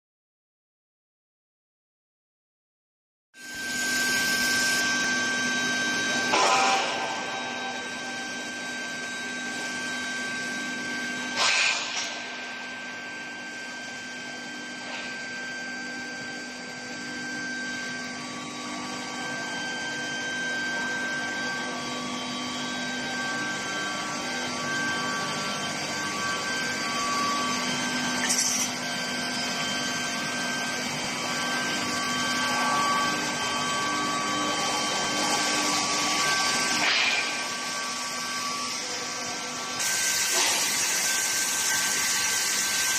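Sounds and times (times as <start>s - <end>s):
machine hum with high tones: 3.4s - 42.9s.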